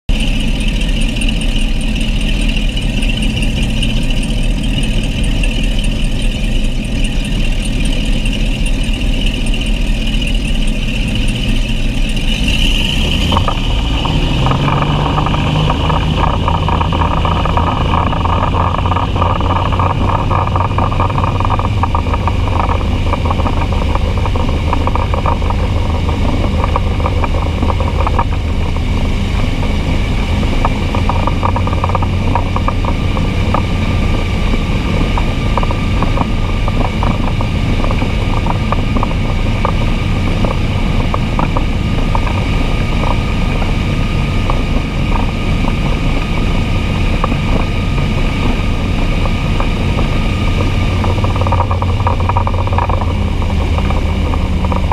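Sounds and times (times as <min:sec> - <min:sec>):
boat engine running: 0:00.0 - 0:54.9
exhaust water splashing: 0:00.1 - 0:54.9.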